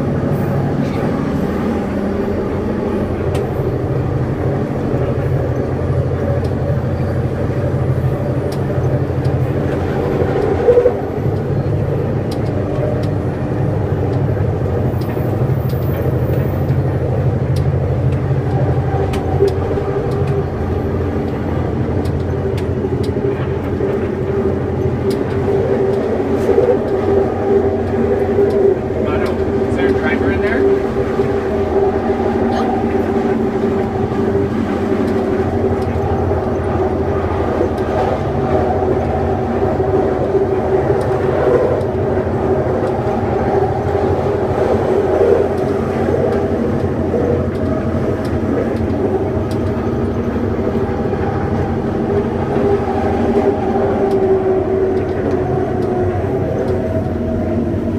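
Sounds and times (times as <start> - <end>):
train rumble: 0.0 - 57.9
faint track clicks: 4.8 - 57.9.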